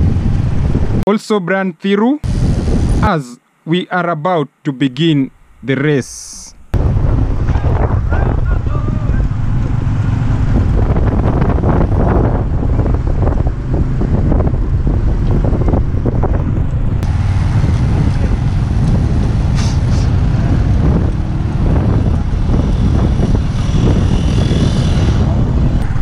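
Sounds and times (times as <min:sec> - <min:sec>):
wind buffeting microphone: 0:00.0 - 0:01.0, 0:02.3 - 0:03.0, 0:06.7 - 0:26.0
road noise: 0:00.0 - 0:01.1, 0:02.2 - 0:03.6, 0:06.5 - 0:26.0.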